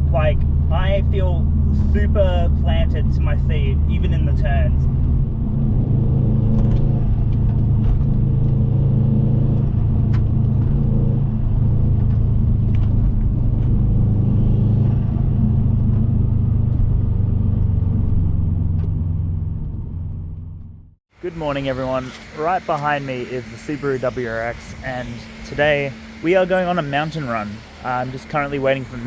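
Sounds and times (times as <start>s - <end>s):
car engine droning: 0.0s - 29.0s
road noise: 0.0s - 29.0s.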